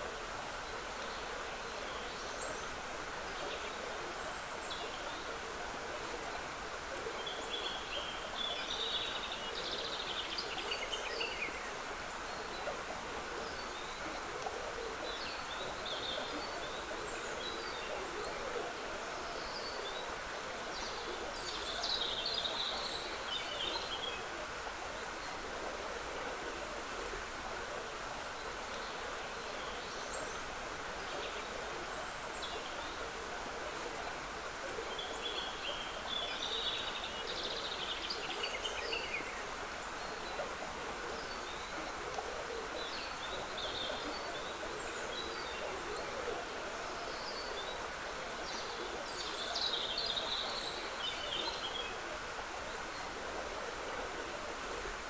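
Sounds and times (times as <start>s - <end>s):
water trickling in stream: 0.0s - 55.0s.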